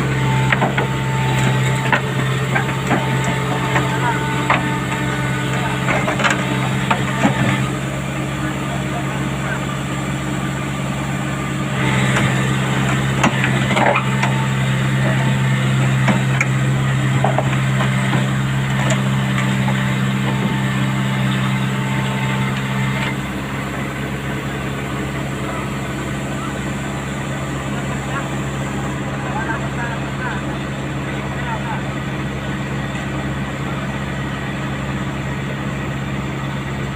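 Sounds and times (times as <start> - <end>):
backhoe diesel engine running: 0.0 - 36.9.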